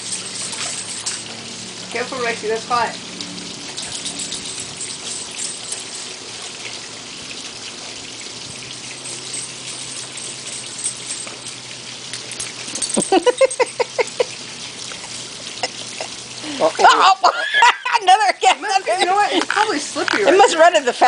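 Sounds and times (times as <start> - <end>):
waterfall splashing into pond: 0.0 - 21.0.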